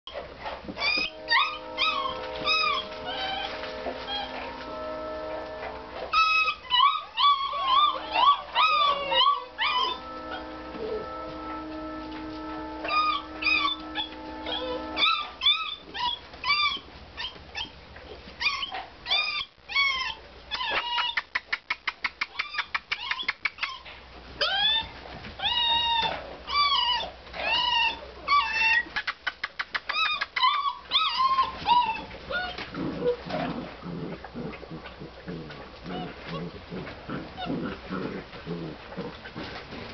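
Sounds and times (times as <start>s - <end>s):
puppies whining and yelping: 0.1s - 17.8s, 18.4s - 21.3s, 22.3s - 29.1s, 29.8s - 39.6s
puppies whimpering: 0.8s - 17.7s, 22.4s - 29.0s, 29.9s - 39.6s.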